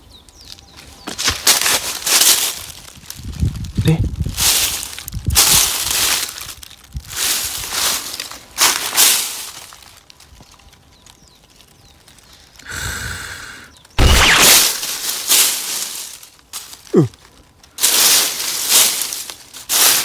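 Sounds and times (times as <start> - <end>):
dry leaves rustling: 0.0 - 12.6, 13.8 - 20.0.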